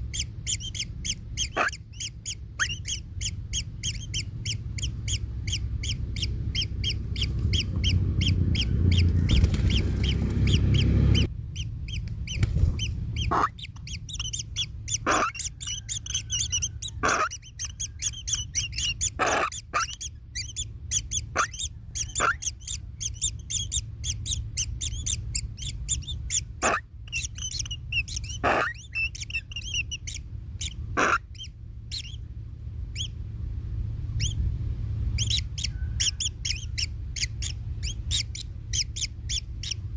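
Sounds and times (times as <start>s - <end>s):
short sweeping bird calls: 0.0s - 32.3s, 35.1s - 39.9s
nestlings begging chirps: 0.0s - 33.2s, 34.1s - 34.5s, 35.1s - 39.9s
heavy low rumble: 0.0s - 39.9s.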